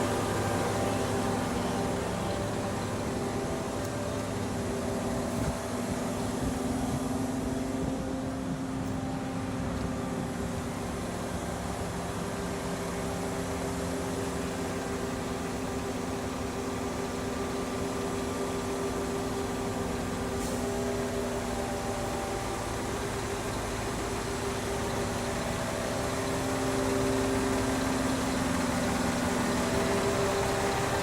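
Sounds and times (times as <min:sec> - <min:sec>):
concrete pump engine running: 0:00.0 - 0:31.0.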